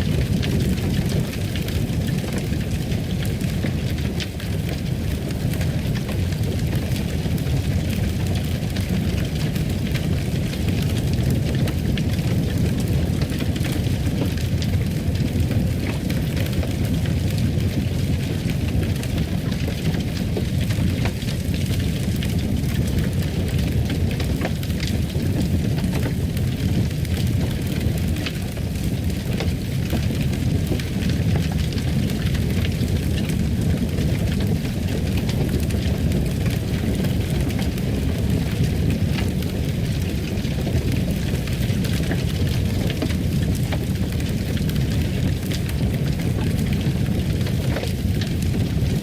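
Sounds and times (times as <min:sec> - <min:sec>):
fire crackling in a fireplace: 0:00.0 - 0:49.0.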